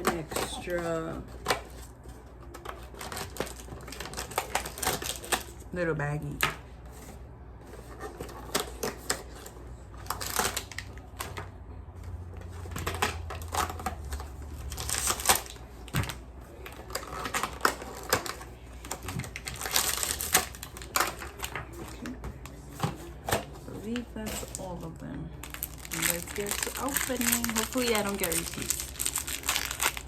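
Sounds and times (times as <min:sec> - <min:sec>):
plastic toy packaging crinkling: 0:00.0 - 0:05.7, 0:07.6 - 0:11.5, 0:12.1 - 0:30.0.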